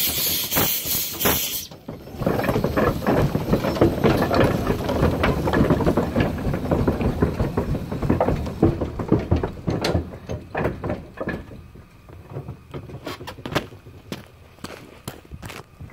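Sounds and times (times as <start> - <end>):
steam traction engine clatter: 0.0 - 15.9.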